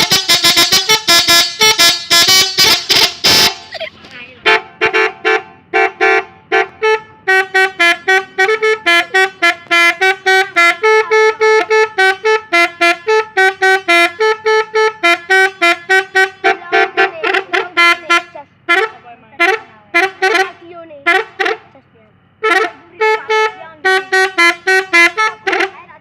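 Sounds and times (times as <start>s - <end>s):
musical horn short toots: 0.0s - 3.8s, 4.4s - 21.7s, 22.4s - 26.0s.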